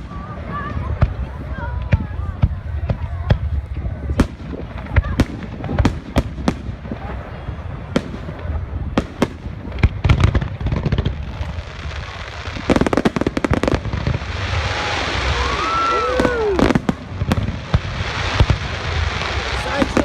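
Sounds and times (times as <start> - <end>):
fireworks bangs: 0.0 - 20.0
fireworks crackling pops: 0.0 - 20.0.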